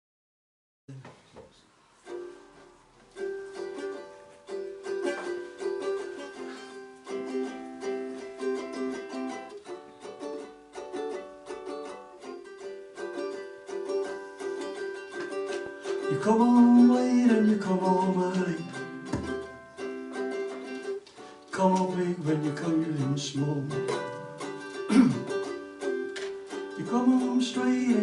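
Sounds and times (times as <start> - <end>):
plucked string instrument strumming: 2.0 - 28.0.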